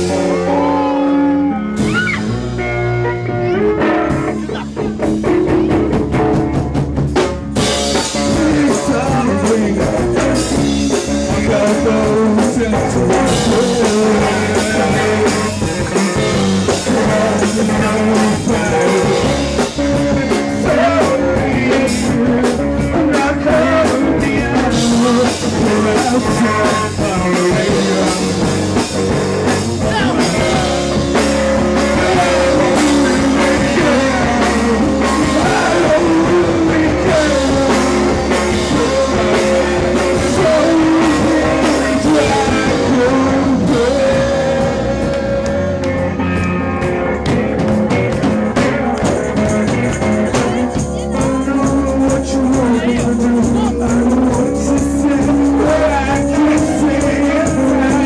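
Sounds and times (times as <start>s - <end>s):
person singing: 0.0s - 6.5s, 7.6s - 58.0s
rock music with drums and guitar: 0.0s - 58.0s.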